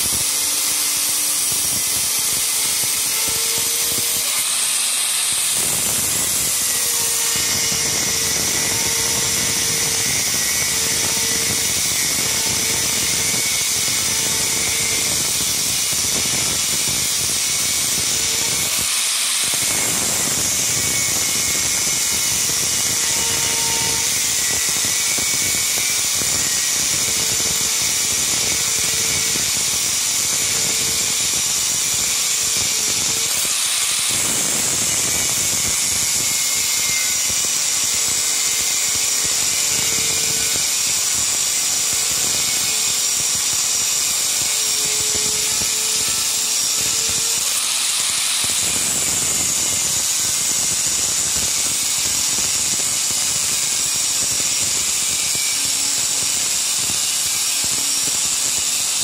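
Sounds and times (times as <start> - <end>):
angle grinder cutting steel: 0.0 - 59.0.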